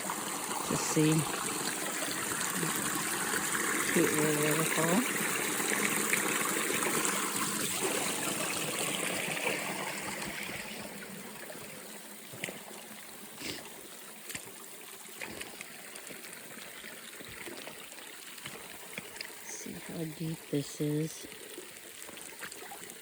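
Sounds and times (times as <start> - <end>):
small waterfall splashing: 0.0 - 23.0.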